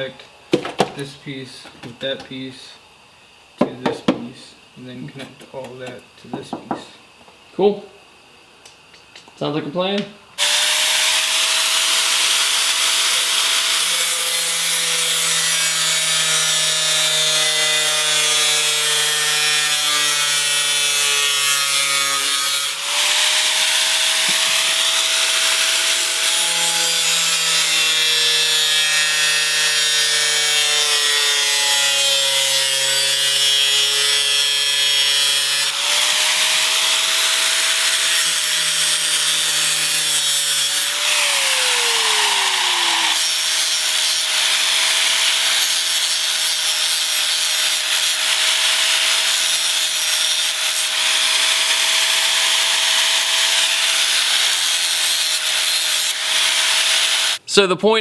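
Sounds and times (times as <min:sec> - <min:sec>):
power tool cutting sheet metal: 0:10.4 - 0:57.4.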